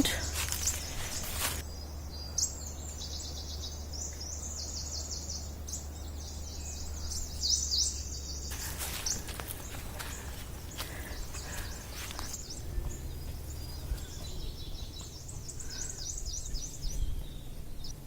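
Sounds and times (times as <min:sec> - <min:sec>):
songbirds chirping and trilling: 0:00.0 - 0:18.0
steady low rumble: 0:00.0 - 0:18.0.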